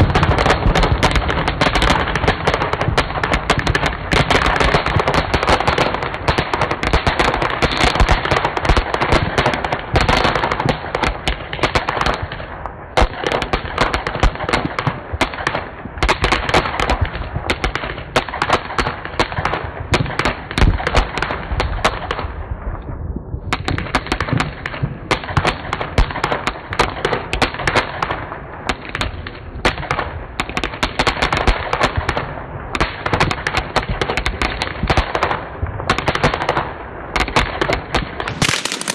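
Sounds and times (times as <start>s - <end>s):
firework crackling pops: 0.0s - 38.9s.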